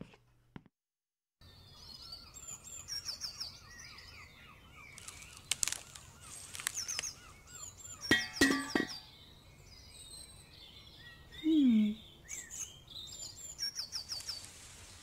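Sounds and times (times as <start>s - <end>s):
small birds chirping: 1.4s - 15.0s.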